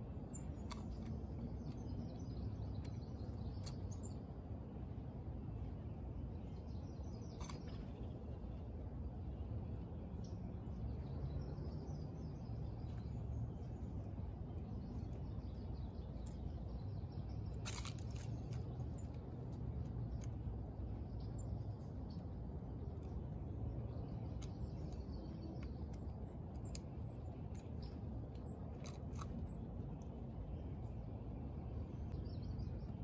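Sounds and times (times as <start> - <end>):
faint songbird chirps: 0.0 - 33.0
low outdoor rumble: 0.0 - 33.0.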